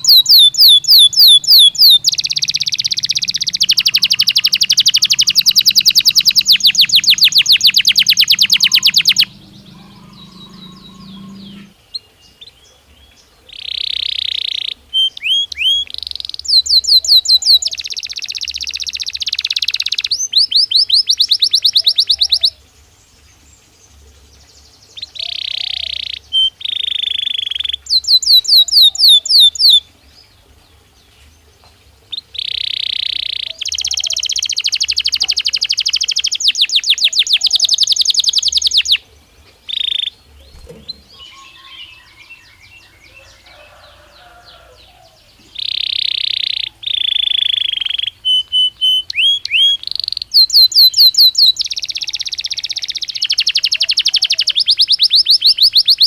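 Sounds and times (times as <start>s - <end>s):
canary singing: 0.0s - 22.6s, 24.8s - 29.9s, 32.1s - 56.0s.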